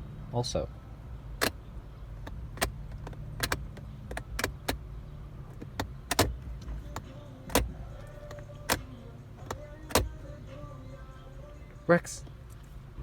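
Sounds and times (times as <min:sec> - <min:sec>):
steady low car hum: 0:00.0 - 0:13.0.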